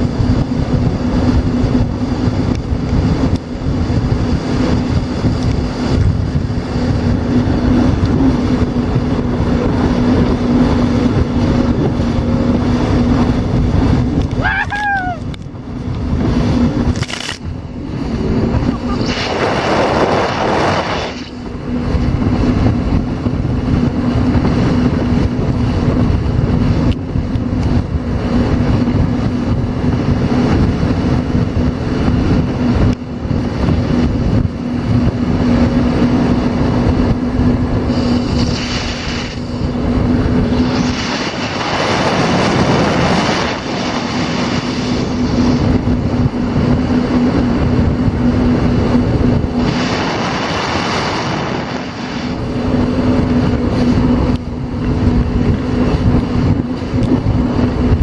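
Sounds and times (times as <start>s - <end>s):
watercraft engine running: 0.0s - 58.0s.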